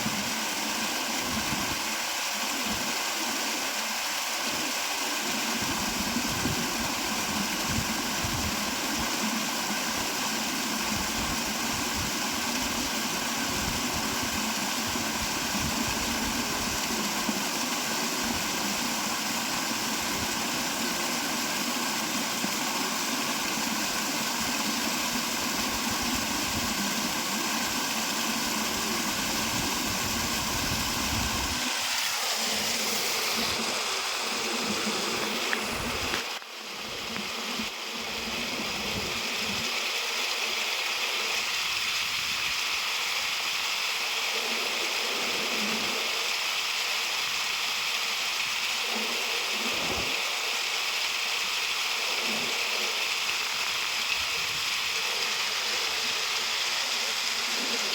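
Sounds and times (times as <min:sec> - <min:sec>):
waterfall rushing: 0:00.0 - 0:41.5, 0:47.1 - 0:57.9.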